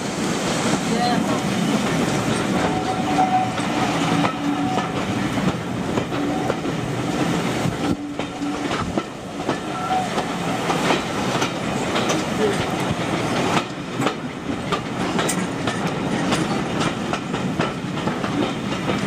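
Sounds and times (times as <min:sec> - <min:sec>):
train rolling rumble: 0:00.0 - 0:19.0
wheels clacking over rail joints: 0:00.7 - 0:19.0.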